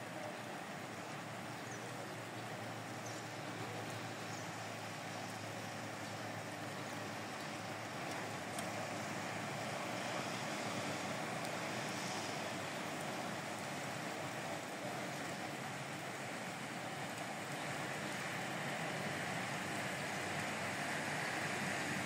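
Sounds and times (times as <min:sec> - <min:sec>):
rain on rooftop: 0:00.0 - 0:22.0.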